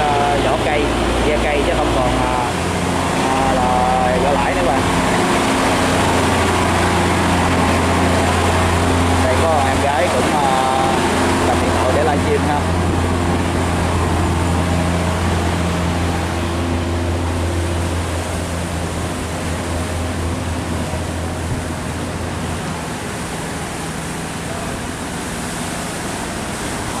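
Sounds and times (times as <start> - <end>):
boat engine humming: 0.0 - 27.0.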